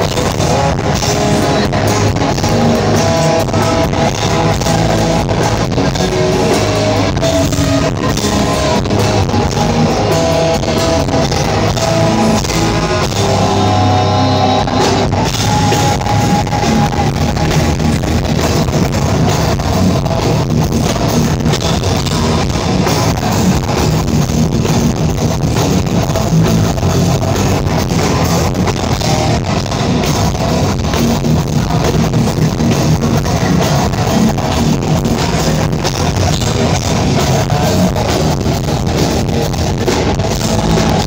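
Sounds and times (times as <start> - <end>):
drum kit: 0.0 - 41.0
electric guitar: 0.0 - 41.0
live rock band: 0.0 - 41.0.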